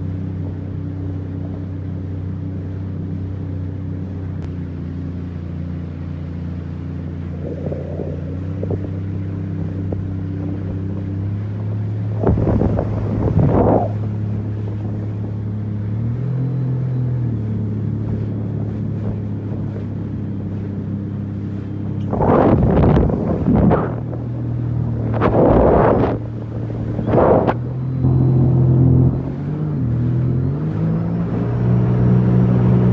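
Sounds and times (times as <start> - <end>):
engine rushing surges: 0.0 - 32.9
jet ski engine idling: 0.0 - 32.9.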